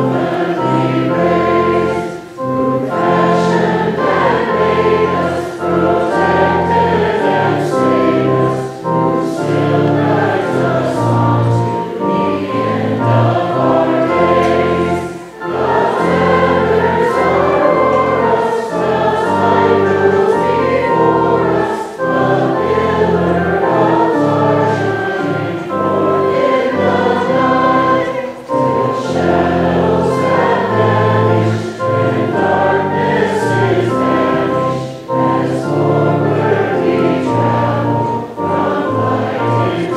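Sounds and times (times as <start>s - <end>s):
choir singing a hymn: 0.0s - 39.9s
sustained low instrumental notes: 0.0s - 39.9s.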